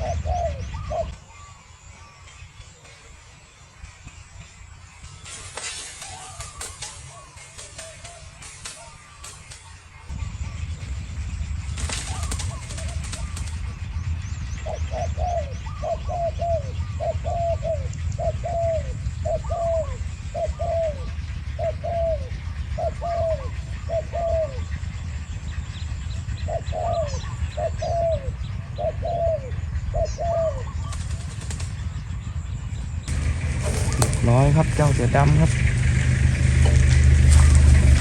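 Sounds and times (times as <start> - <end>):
doves cooing: 0.0 - 3.6, 5.1 - 38.0.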